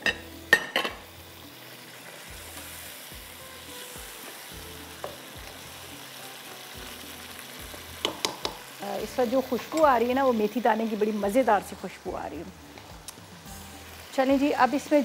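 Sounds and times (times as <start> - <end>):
potatoes sizzling in a wok: 0.0 - 15.0.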